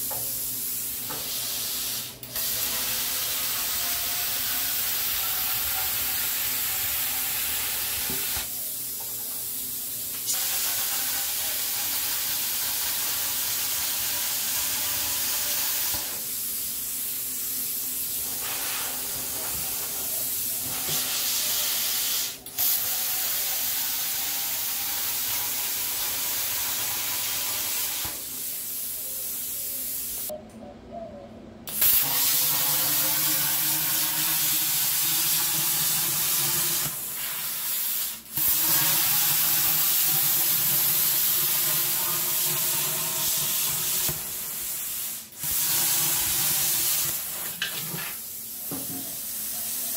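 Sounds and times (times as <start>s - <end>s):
plasma cutter hissing: 0.0s - 30.3s, 31.7s - 49.9s.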